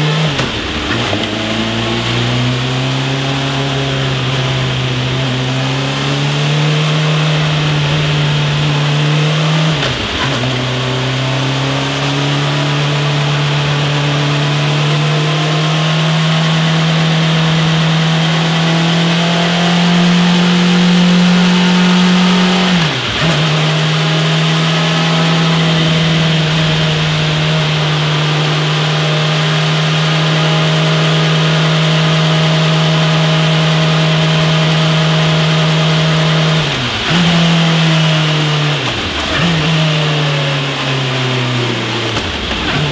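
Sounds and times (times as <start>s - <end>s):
motorcycle engine at high revs: 0.0s - 42.9s.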